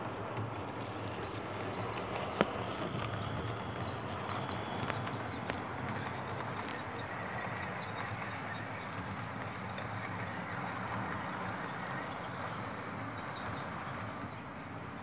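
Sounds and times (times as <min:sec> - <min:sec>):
metal wheels rolling on rails: 0:00.0 - 0:15.0
model train motor running: 0:00.0 - 0:15.0.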